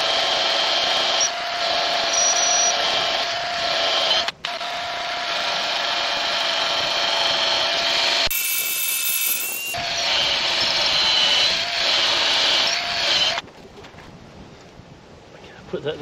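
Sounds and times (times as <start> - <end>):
cordless drill boring into wood: 0.0 - 13.4.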